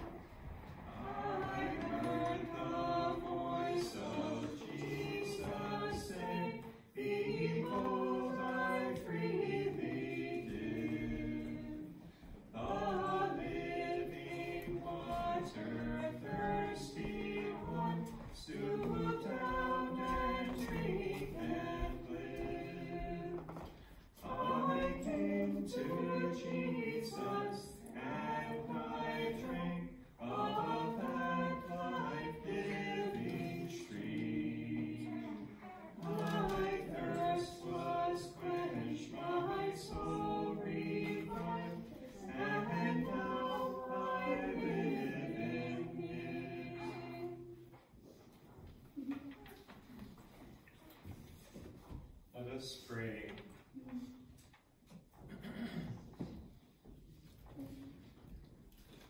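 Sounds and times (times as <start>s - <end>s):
group singing a hymn: 0.0s - 48.0s.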